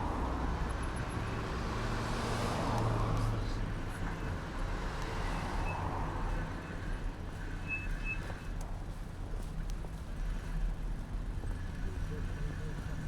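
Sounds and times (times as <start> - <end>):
street traffic hum and rumble: 0.0 - 13.0.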